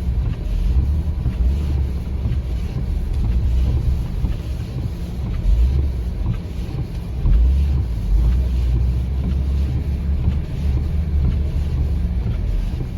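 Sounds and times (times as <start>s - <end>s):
vehicle engine and tyres rumbling: 0.0s - 12.9s.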